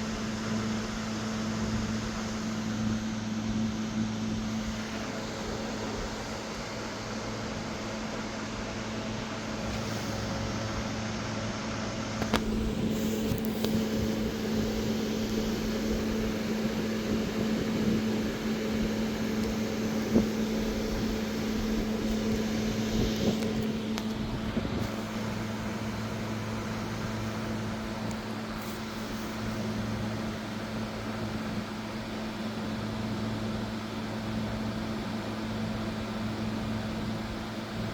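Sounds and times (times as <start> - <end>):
steady machine hum: 0.0 - 37.9.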